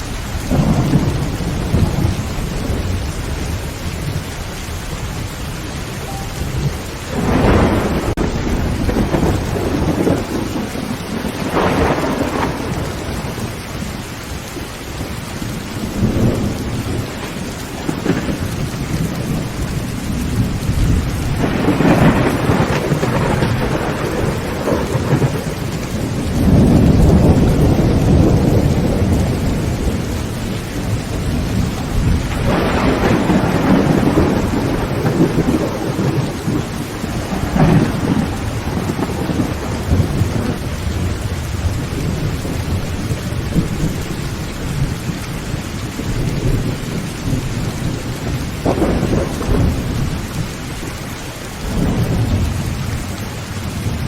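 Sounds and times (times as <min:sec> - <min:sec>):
thunder rolling: 0:00.0 - 0:13.9, 0:15.6 - 0:50.9
heavy rain on a tin roof: 0:00.0 - 0:54.0.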